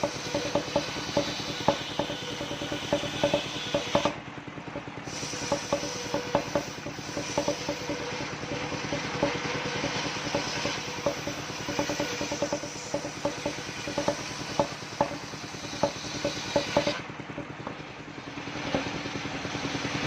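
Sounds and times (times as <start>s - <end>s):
sawmill engine beat: 0.0s - 20.0s.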